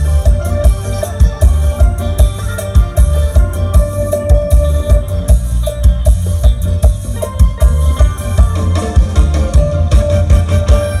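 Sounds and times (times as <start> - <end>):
amplified band music: 0.0 - 11.0.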